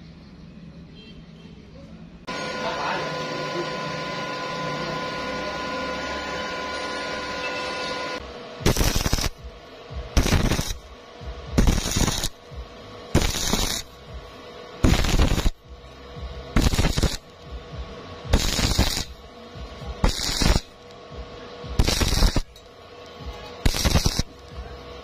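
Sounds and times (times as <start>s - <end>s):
welding arc crackling: 2.3s - 25.0s.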